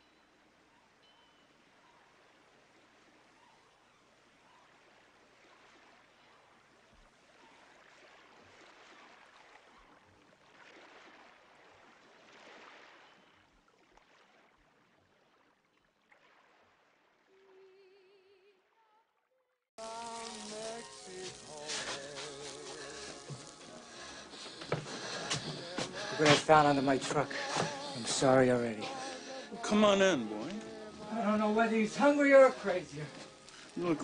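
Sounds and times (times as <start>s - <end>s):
faint rushing water: 0.0s - 18.8s, 19.8s - 34.0s.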